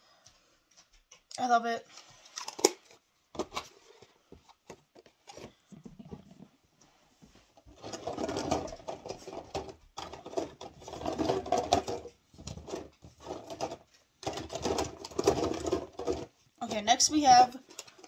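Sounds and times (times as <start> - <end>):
plastic packs rattling and crinkling: 1.9 - 6.5, 7.5 - 18.0.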